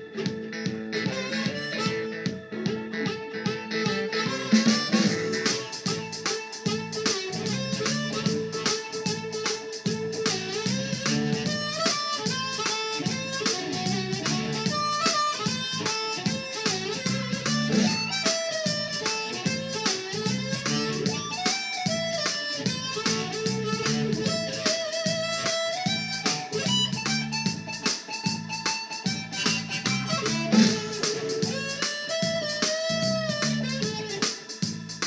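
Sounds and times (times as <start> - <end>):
amplified blues harmonica: 0.0 - 35.0
backing groove with bass line: 0.0 - 35.0.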